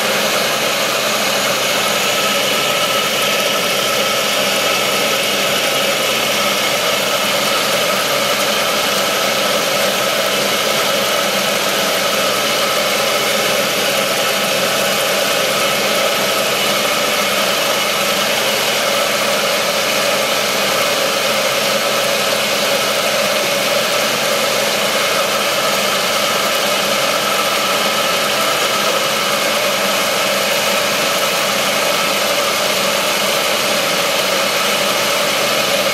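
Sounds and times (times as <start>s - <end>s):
turning tool cutting wood: 0.0s - 35.9s
wood lathe humming: 0.0s - 35.9s.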